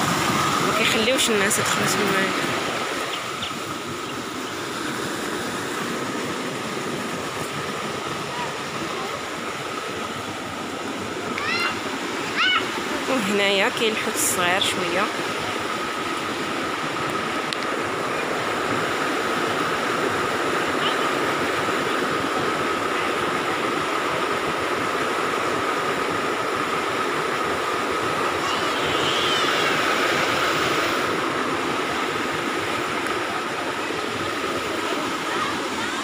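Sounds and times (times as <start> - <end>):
water splashing into ponds: 0.0 - 36.0.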